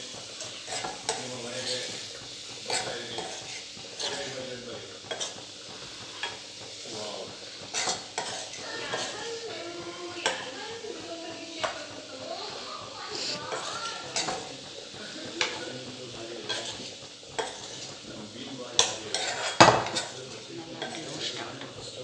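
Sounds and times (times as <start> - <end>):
food sizzling in oil: 0.0 - 22.0
utensil scraping a pan: 0.0 - 22.0.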